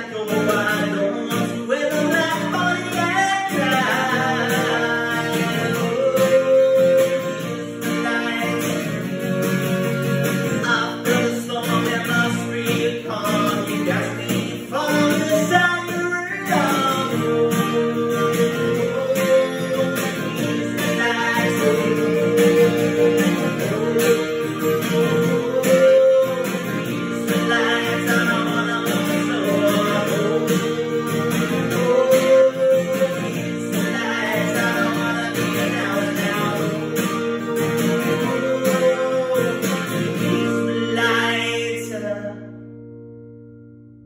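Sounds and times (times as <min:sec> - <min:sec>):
man singing: 0:00.0 - 0:42.8
acoustic guitar strummed: 0:00.0 - 0:44.0.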